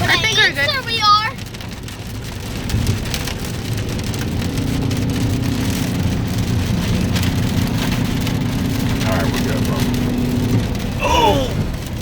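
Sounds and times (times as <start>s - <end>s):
car engine and road hum: 0.0s - 12.0s
heavy rain on car body: 0.0s - 12.0s.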